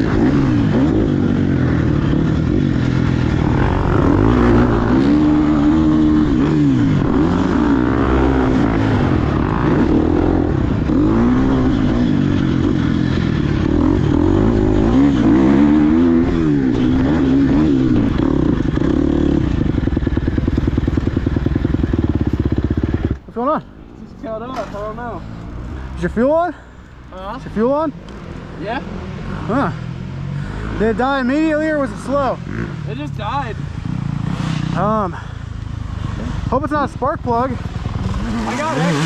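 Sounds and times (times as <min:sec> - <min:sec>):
dirt bike engine revving: 0:00.0 - 0:23.4, 0:27.5 - 0:39.0.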